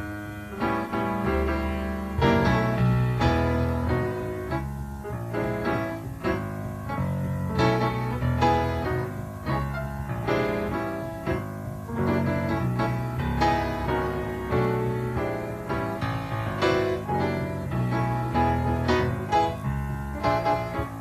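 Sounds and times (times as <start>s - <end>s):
jazz-fusion bass and keyboard jam: 0.0s - 21.0s.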